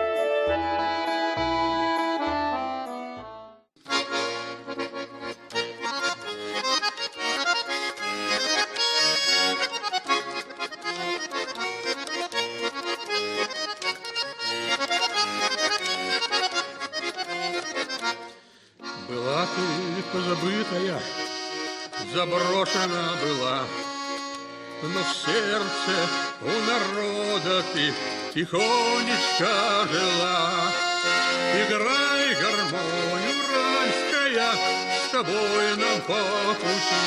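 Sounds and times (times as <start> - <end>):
accordion playing folk tune: 0.0 - 37.0.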